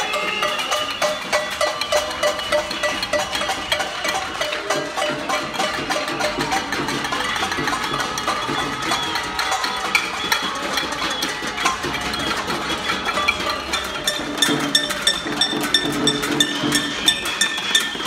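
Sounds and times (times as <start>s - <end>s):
people banging metal pots and pans: 0.0s - 18.0s.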